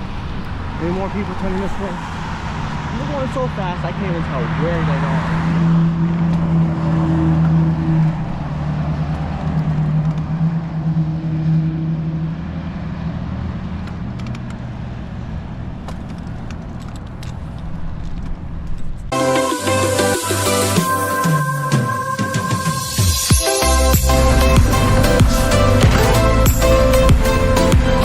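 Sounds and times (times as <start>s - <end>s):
car engine hum: 0.0s - 28.0s
road noise: 0.0s - 28.0s.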